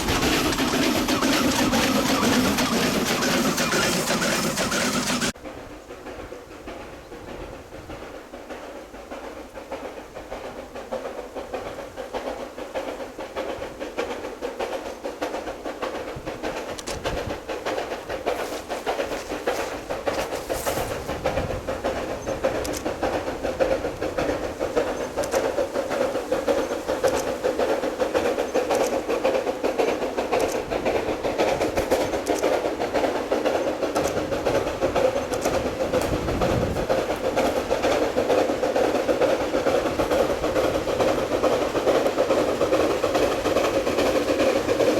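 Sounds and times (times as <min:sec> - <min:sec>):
steam locomotive running: 0:00.0 - 0:44.9.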